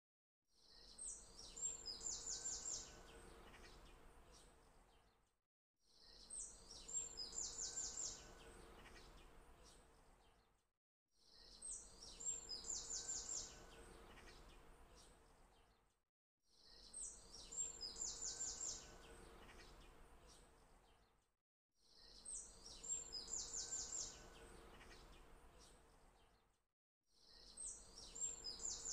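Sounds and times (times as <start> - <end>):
birds chirping and trilling: 0.6 - 5.1, 6.0 - 10.4, 11.3 - 15.6, 16.6 - 21.0, 21.9 - 26.4, 27.2 - 28.9.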